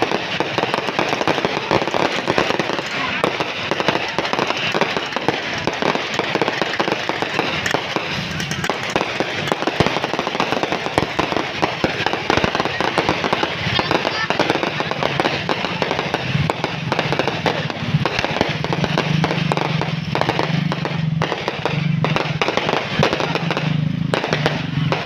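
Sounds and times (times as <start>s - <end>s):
fireworks cracking and popping: 0.0s - 25.0s.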